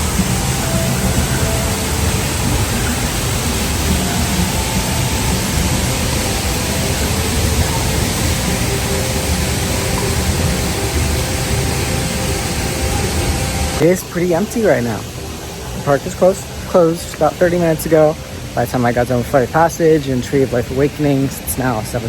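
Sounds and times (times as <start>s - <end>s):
loud rushing noise: 0.0s - 18.6s
faint musical tones: 0.0s - 22.0s.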